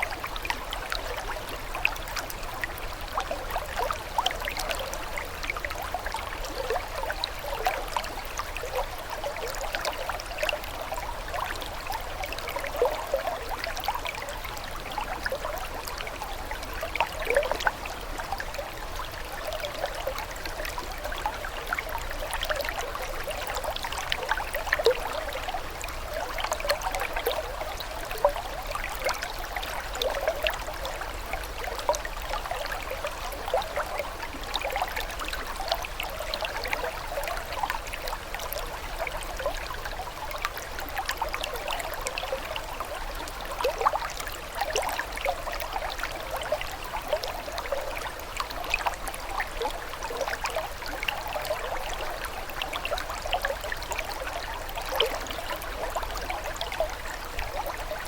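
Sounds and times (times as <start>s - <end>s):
water trickling and bubbling: 0.0s - 58.0s.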